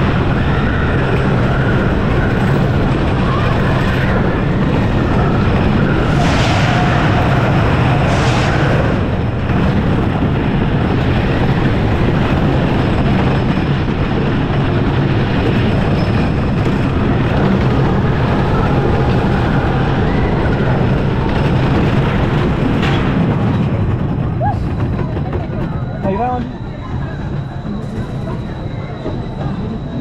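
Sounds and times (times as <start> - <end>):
roller coaster rumble and clatter: 0.0 - 30.0.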